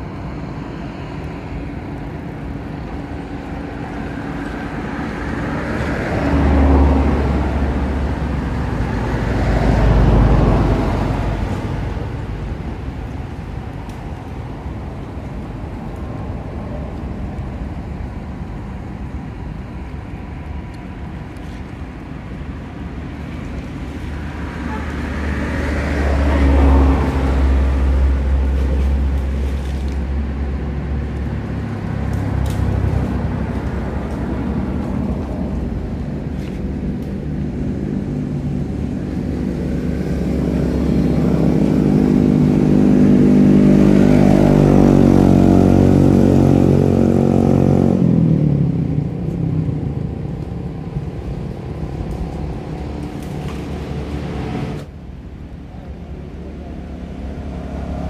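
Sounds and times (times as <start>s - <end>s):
vehicle engines passing: 0.0s - 58.0s.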